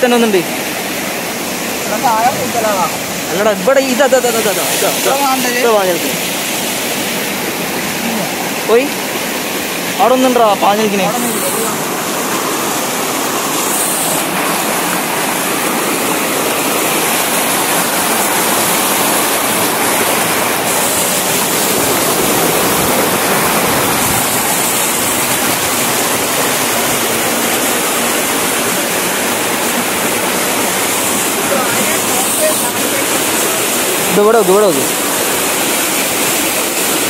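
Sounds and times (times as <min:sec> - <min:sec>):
small waterfall rushing: 0:00.0 - 0:37.0.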